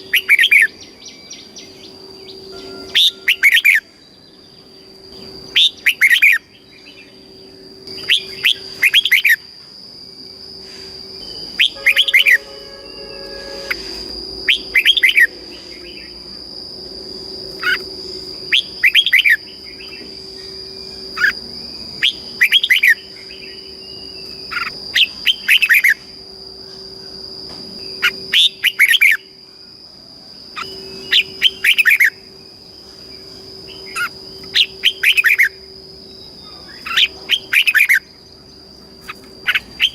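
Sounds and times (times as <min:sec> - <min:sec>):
bird whistling song: 0:00.0 - 0:09.5, 0:10.8 - 0:16.2, 0:17.6 - 0:27.1, 0:27.9 - 0:29.4, 0:30.6 - 0:38.2, 0:39.0 - 0:39.9
high-pitched whine: 0:00.0 - 0:39.9.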